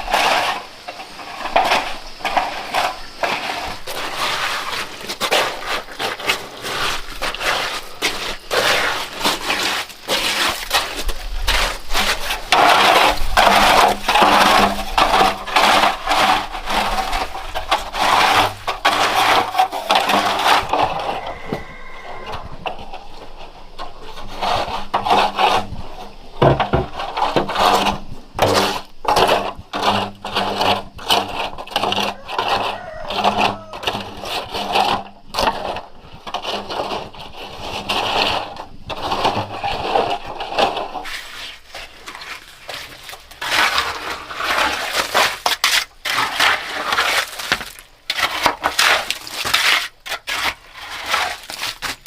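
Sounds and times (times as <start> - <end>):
scraping and knocking of hand work: 0.0 - 52.0.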